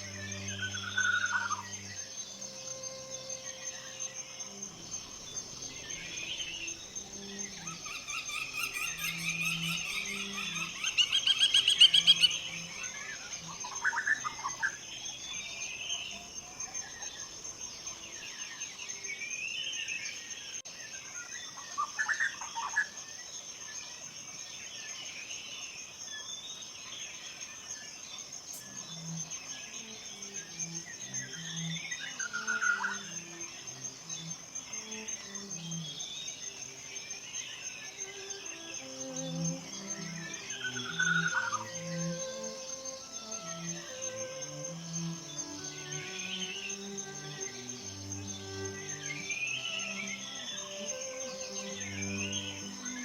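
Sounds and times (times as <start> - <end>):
rapid bird trill: 0.0 - 18.2, 28.6 - 53.0
forest birds singing: 0.0 - 53.0
high-pitched insect-like hum: 0.0 - 53.0.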